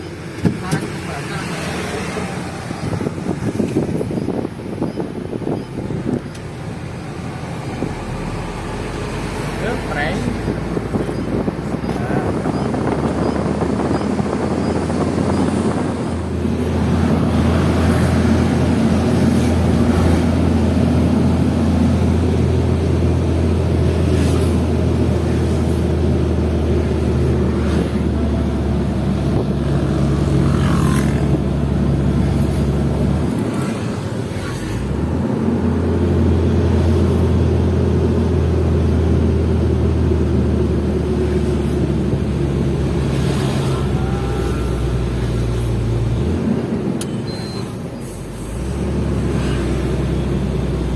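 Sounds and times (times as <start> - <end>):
truck diesel engine under load: 0.0 - 50.9.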